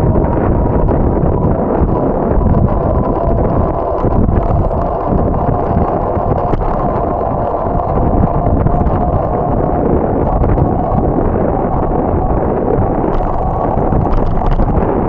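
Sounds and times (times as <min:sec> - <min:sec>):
bicycle clicks over pavement: 0:00.0 - 0:15.0
wind buffeting microphone: 0:00.0 - 0:15.0.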